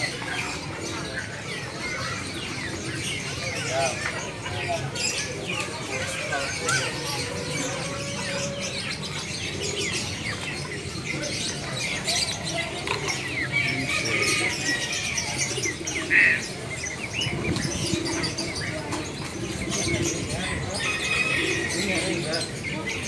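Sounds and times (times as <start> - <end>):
caged birds chirping: 0.0 - 23.0.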